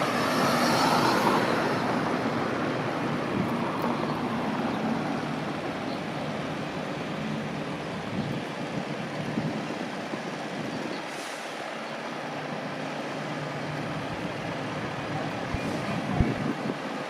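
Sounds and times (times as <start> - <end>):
heavy truck engines: 0.0 - 17.0
road traffic noise: 0.0 - 17.0.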